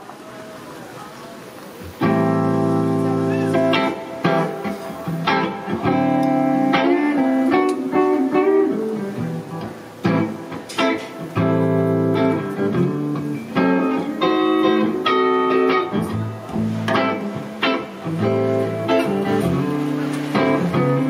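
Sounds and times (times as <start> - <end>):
electric guitar chords and notes: 1.8 - 21.0.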